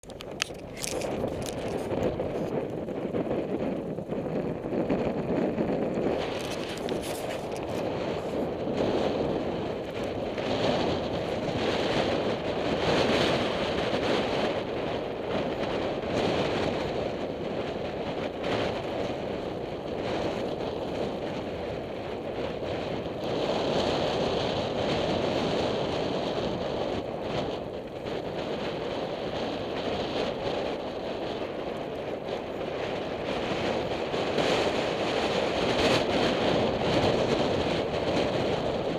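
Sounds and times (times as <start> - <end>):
strong wind buffeting microphone: 0.0 - 38.9.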